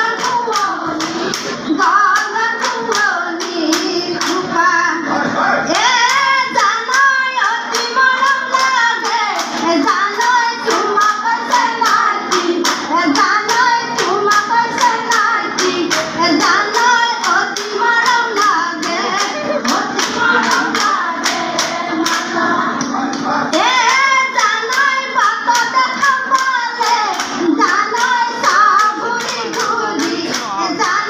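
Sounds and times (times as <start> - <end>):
rhythmic handclaps: 0.0 - 5.1, 5.7 - 31.0
women singing a folk song: 0.0 - 5.1, 5.7 - 31.0.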